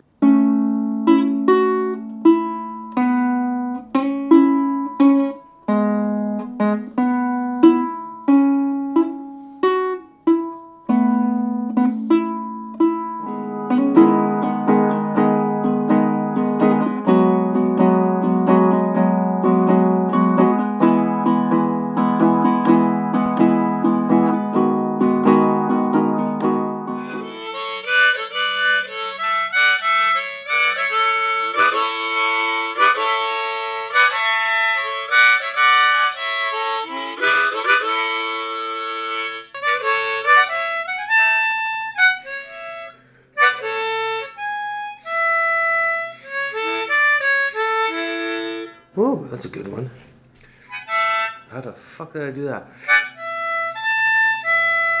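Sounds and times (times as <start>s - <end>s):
ukulele strumming: 0.0s - 48.8s, 52.8s - 55.0s
harmonica melody: 0.0s - 49.2s, 50.6s - 52.0s, 52.8s - 55.0s.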